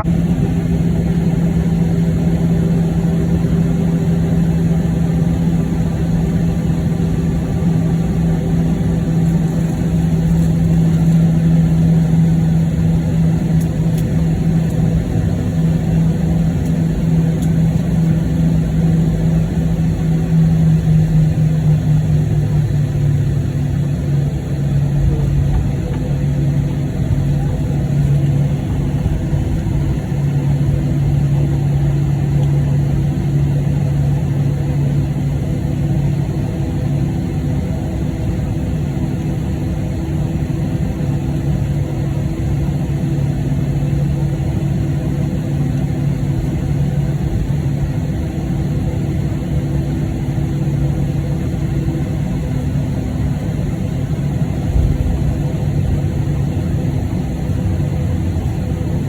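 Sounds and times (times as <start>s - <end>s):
aircraft cabin drone: 0.0s - 59.0s.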